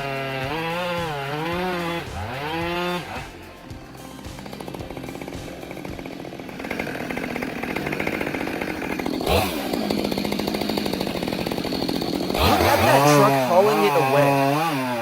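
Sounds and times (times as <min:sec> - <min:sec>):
stump grinder rattling: 0:00.0 - 0:15.0.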